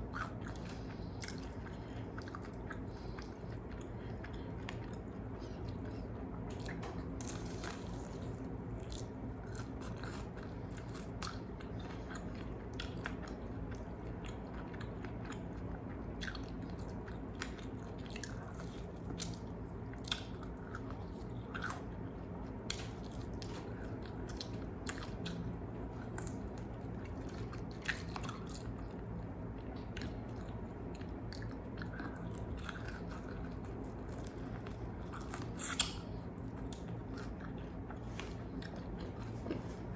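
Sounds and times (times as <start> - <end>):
chewing crispy chicken: 0.0 - 39.6.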